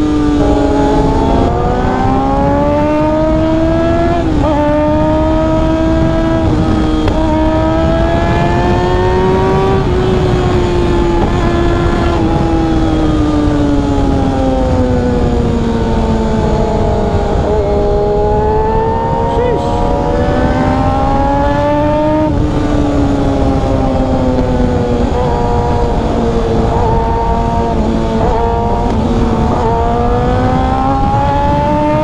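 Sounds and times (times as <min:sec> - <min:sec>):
motorcycle engine: 0:00.0 - 0:32.0
wind rumble on microphone: 0:00.0 - 0:32.0.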